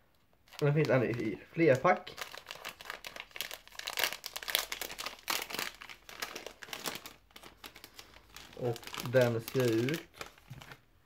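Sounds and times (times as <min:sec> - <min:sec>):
plastic wrapper crinkling: 0:00.1 - 0:10.9.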